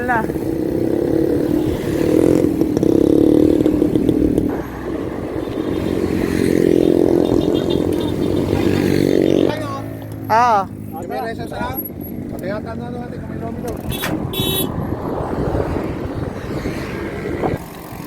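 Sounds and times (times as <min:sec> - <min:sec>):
motorcycle engine running loudly: 0:00.0 - 0:18.0.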